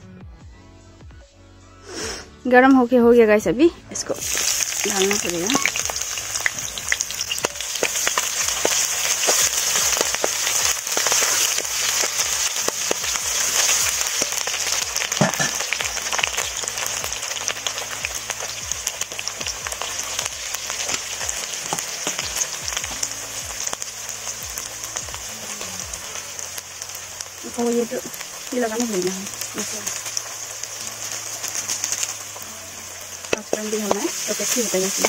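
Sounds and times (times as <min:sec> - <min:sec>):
onions sizzling in hot oil: 0:04.0 - 0:35.0.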